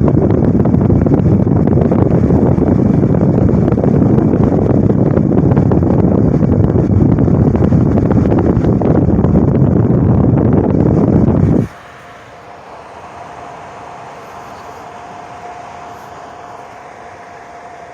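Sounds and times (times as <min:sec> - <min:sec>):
heater blower rushing air: 0:00.0 - 0:17.9.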